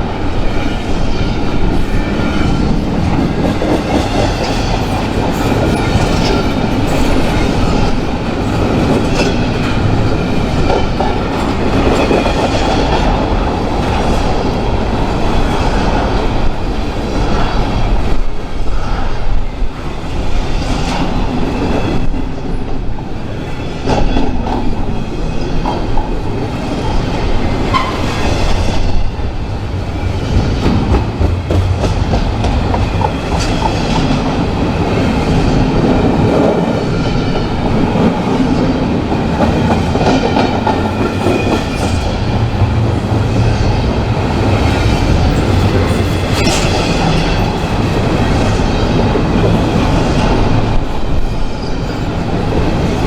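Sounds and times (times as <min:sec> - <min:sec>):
train cars rolling on rails: 0:00.0 - 0:53.0.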